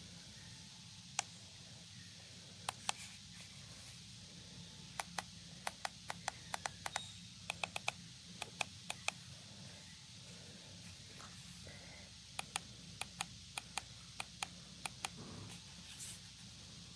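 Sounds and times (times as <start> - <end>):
faint low hum: 0.0 - 16.9.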